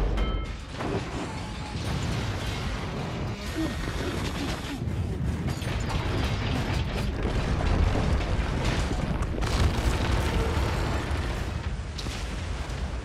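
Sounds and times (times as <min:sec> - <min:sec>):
rumble of falling concrete and debris: 0:00.0 - 0:13.0.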